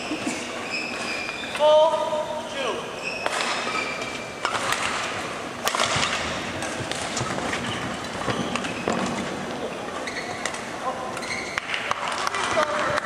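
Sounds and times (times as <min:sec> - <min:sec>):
crowd and room noise hiss: 0:00.0 - 0:13.0.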